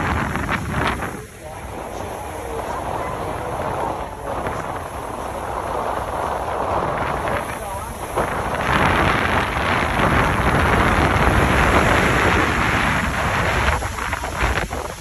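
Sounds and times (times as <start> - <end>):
boat engine rumble: 0.0 - 15.0
rushing water: 0.0 - 15.0
wind buffeting microphone: 0.0 - 15.0.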